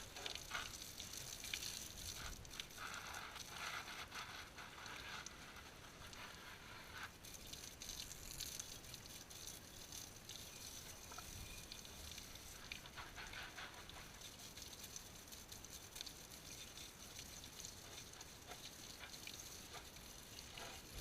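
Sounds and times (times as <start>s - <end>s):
water dripping: 0.0s - 21.0s
water spraying onto engine: 0.0s - 21.0s.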